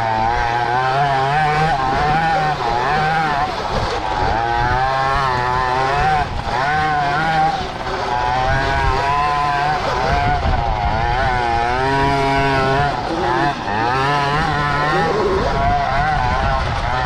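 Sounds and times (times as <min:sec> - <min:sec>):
pocket bike engine revving: 0:00.0 - 0:17.0.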